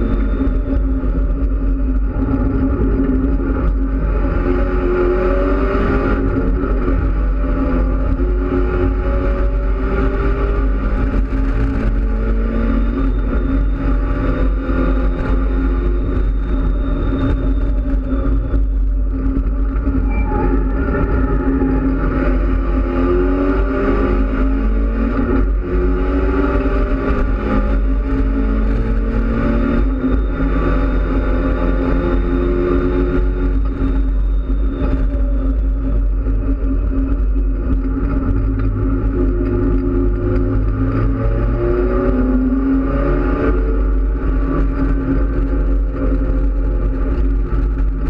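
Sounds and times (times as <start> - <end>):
car engine accelerating: 0.0 - 48.0
road and wind noise: 0.0 - 48.0.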